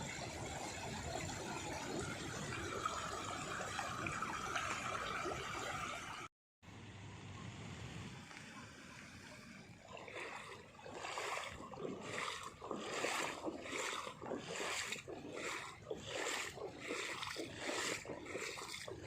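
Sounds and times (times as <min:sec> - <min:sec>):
floodwater splashing: 0:00.0 - 0:06.3, 0:08.3 - 0:19.0.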